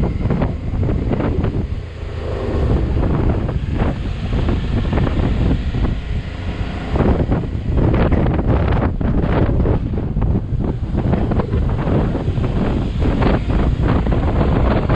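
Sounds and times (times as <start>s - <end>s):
motorcycle engine running: 0.0s - 14.9s
wind buffeting microphone: 0.0s - 14.9s.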